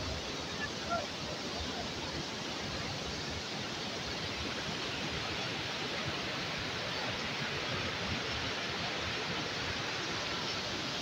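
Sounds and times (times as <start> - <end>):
waterfall rushing into a pool: 0.0 - 11.0.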